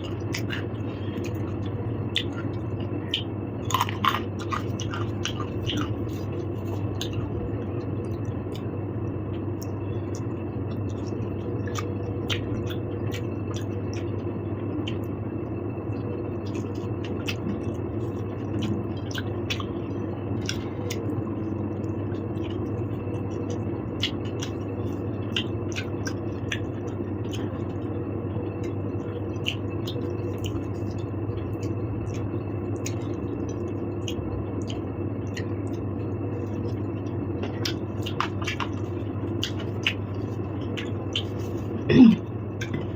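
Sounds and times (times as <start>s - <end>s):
person chewing food: 0.0s - 8.8s, 9.4s - 14.2s, 16.4s - 27.9s, 28.5s - 42.9s
steady low hum: 0.0s - 42.9s.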